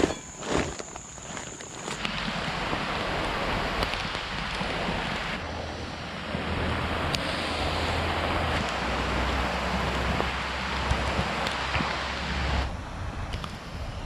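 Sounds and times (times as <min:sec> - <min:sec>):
heavy rain on a tarp: 0:00.0 - 0:12.7.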